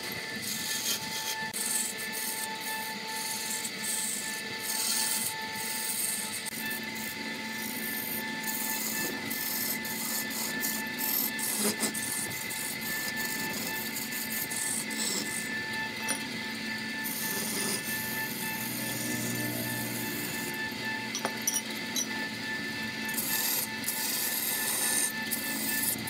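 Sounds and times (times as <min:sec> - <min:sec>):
chisel shaving wood: 0:00.0 - 0:26.0
lathe whine: 0:00.0 - 0:26.0.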